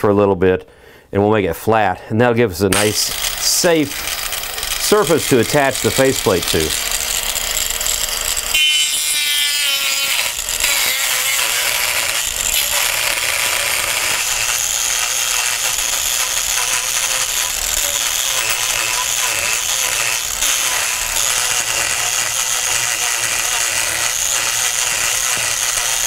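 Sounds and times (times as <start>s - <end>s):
angle grinder grinding wood: 2.7s - 26.0s.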